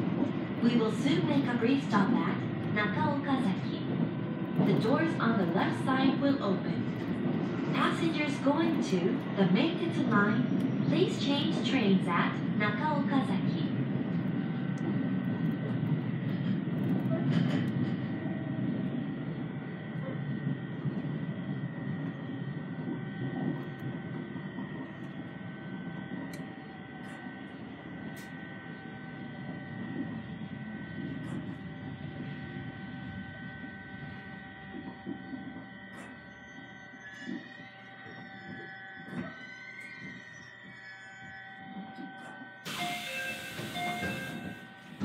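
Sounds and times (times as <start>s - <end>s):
train cabin rumble: 0.0s - 39.4s, 41.8s - 45.0s
constant high hum: 0.0s - 45.0s.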